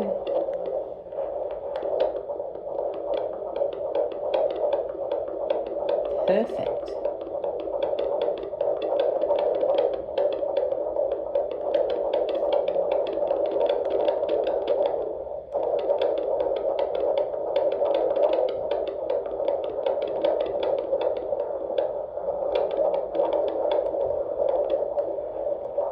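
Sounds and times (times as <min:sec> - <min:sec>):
fast fetal heartbeat pulse: 0:00.0 - 0:25.9
steady static: 0:00.0 - 0:25.9.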